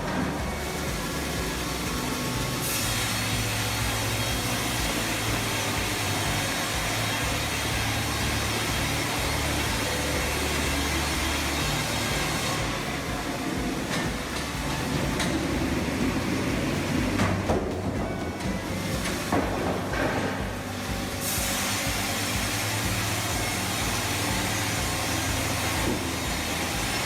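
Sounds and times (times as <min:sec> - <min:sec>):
saw cutting through log: 0:00.0 - 0:17.4, 0:21.2 - 0:27.0
sawmill machine hum: 0:00.0 - 0:27.0.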